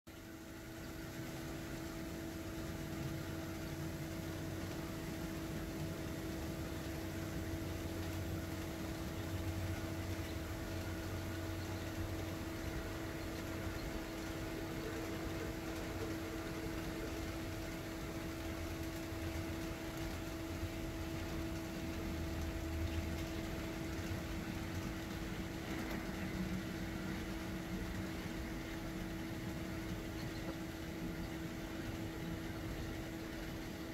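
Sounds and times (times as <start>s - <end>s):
model train diesel idle: 0.3s - 33.9s.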